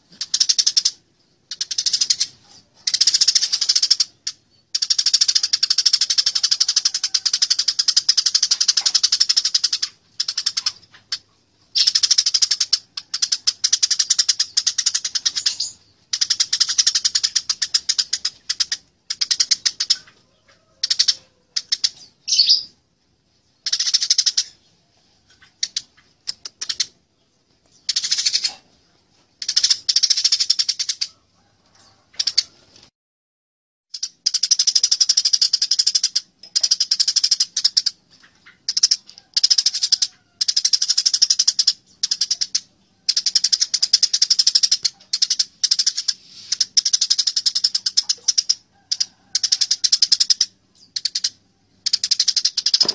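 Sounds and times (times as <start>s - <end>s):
sparrows chattering: 0.0s - 31.2s, 33.9s - 52.9s.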